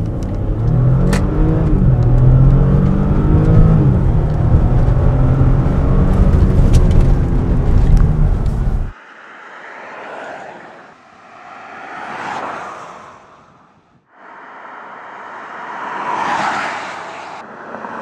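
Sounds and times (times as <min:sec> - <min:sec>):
passing vehicle tyre noise: 0:00.0 - 0:18.0.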